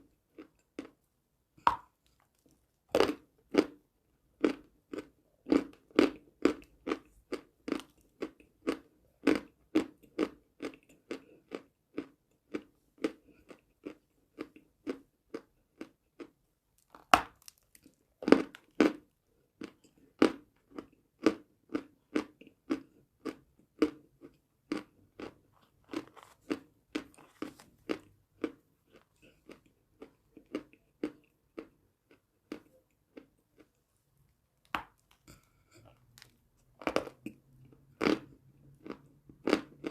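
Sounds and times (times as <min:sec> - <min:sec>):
chalk crunching and chewing: 0:04.4 - 0:33.8, 0:34.8 - 0:39.9.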